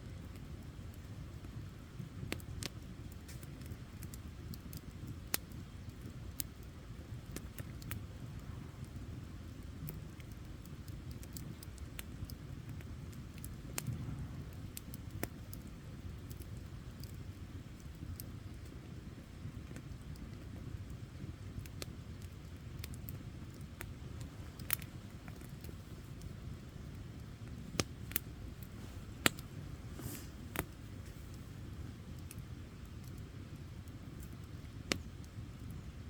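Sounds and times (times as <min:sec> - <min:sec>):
campfire crackling and popping: 0:00.0 - 0:36.0
low fire rumble: 0:00.0 - 0:36.0.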